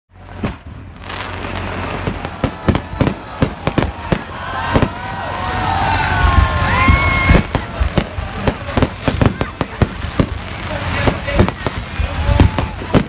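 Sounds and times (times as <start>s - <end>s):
fireworks bangs: 0.1s - 13.0s
fireworks crackle: 0.1s - 13.0s.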